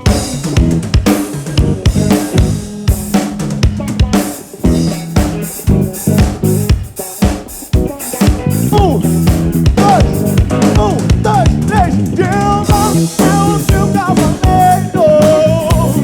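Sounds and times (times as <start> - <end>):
band holding low notes: 0.0 - 16.0
drum kit solo: 0.0 - 16.0
sliding pitched notes: 0.0 - 16.0.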